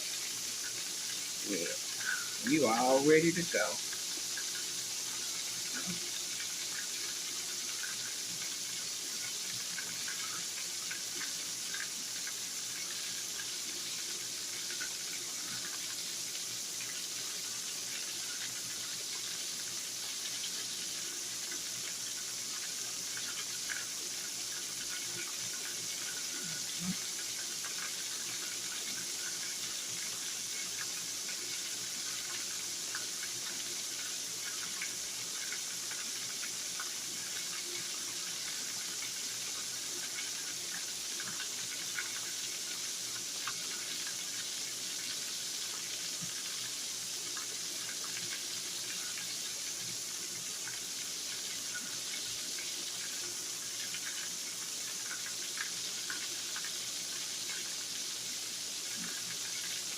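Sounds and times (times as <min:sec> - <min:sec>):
liver sizzling in hot oil: 0:00.0 - 0:59.9.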